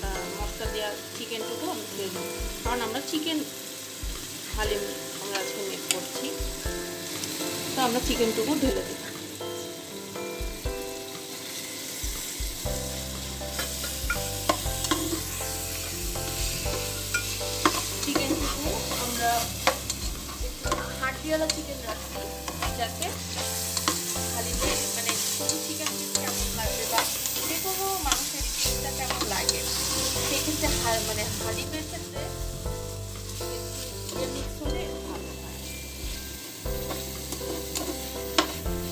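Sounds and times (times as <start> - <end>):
chicken sizzling in oil: 0.0 - 38.9.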